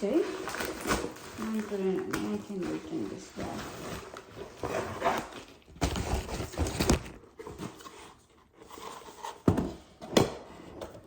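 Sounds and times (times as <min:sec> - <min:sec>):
packaging rustling and crinkling: 0:00.0 - 0:09.9.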